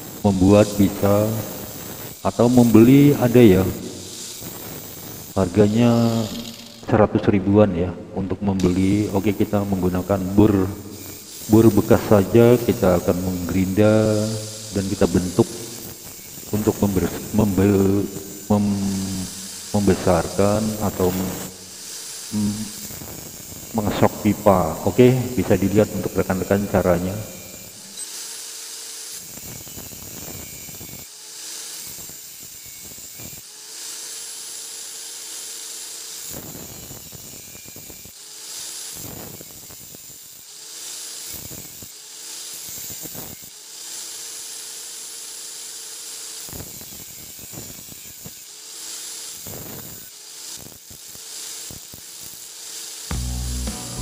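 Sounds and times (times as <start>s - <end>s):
drill bit rasping on grinding wheel: 0.0s - 7.3s, 8.2s - 54.0s
angle grinder motor whine: 0.0s - 54.0s.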